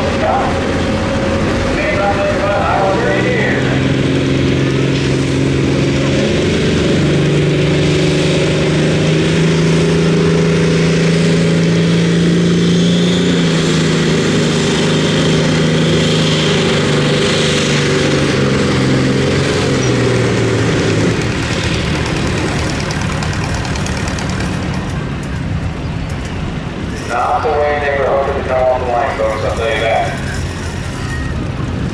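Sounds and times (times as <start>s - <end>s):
tractor engine running at high revs: 0.0s - 31.9s.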